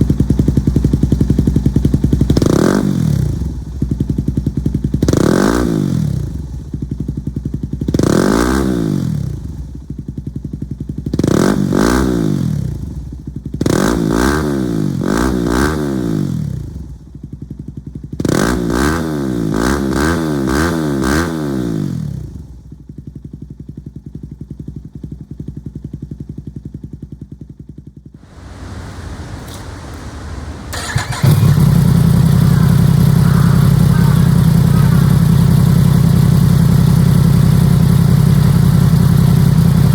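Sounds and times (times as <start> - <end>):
deeper steady engine sound: 0.0 - 39.9
motorcycle engine revving: 0.0 - 39.9.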